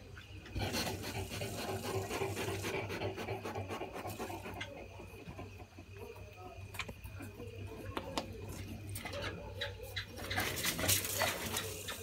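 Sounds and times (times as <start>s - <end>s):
porcupines gnawing food: 0.4s - 5.8s, 6.7s - 12.0s.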